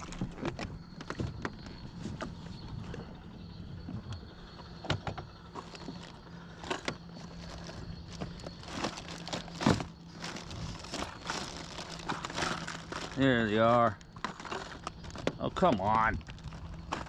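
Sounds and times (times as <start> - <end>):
faint steady hum: 0.0 - 17.0
gear rummaging clicks and rattles: 0.0 - 17.0.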